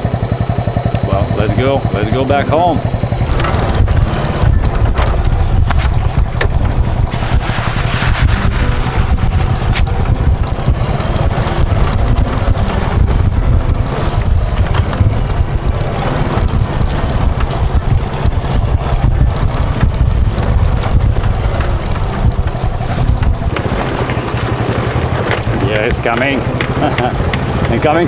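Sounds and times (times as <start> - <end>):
vehicle travelling on road: 0.0 - 28.0
wind buffeting microphone: 0.1 - 28.0.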